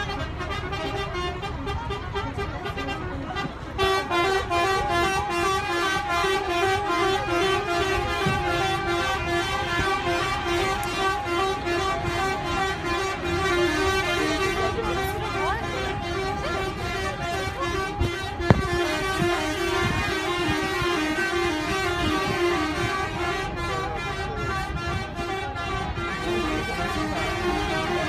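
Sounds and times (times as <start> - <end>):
crowd noise: 0.0 - 28.0
horn playing short notes: 0.0 - 28.0.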